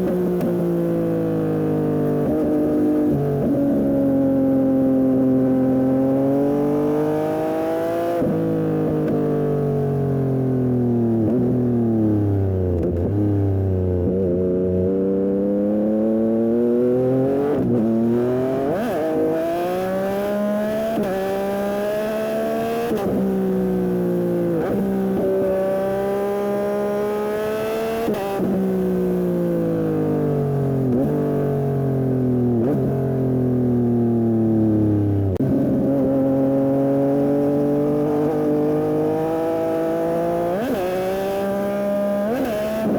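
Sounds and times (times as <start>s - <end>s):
motorcycle engine revving through gears: 0.0s - 42.9s.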